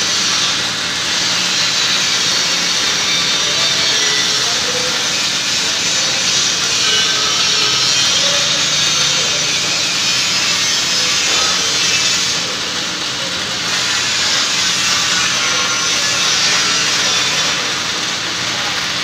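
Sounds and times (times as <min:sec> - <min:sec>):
welding arc crackling: 0:00.0 - 0:19.0.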